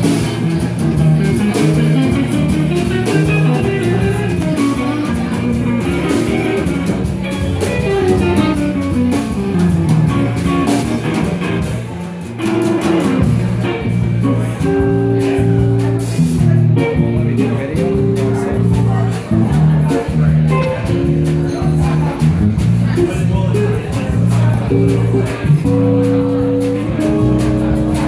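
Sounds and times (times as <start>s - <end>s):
drum kit with cymbals: 0.0s - 28.0s
electric bass: 0.0s - 28.0s
electric guitar melody: 0.0s - 28.0s.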